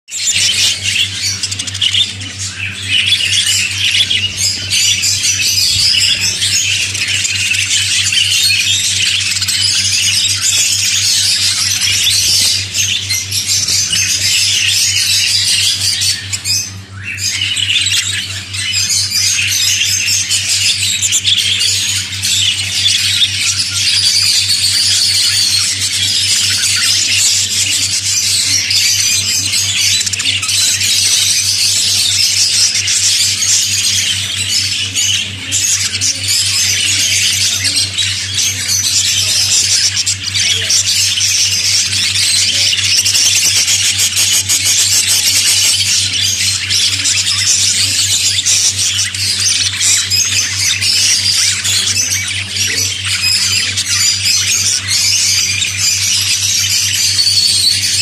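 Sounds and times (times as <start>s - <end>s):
budgerigars chattering and squawking: 0.1s - 58.0s
steady low hum: 0.2s - 58.0s.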